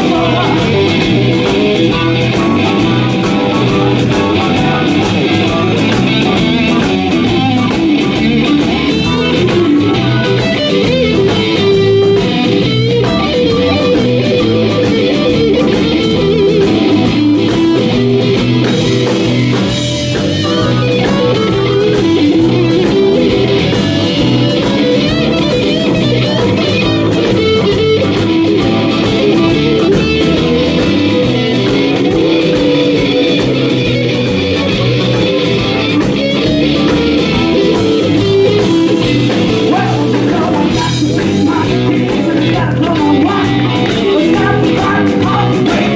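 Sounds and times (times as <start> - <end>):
bass guitar: 0.0 - 45.9
electric guitar leading: 0.0 - 45.9.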